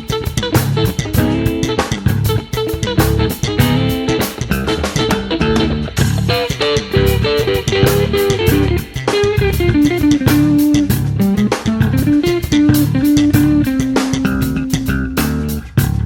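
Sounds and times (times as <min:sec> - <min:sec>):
bass guitar: 0:00.0 - 0:16.0
drum kit beat: 0:00.0 - 0:16.0
electric guitar melody: 0:00.0 - 0:16.0.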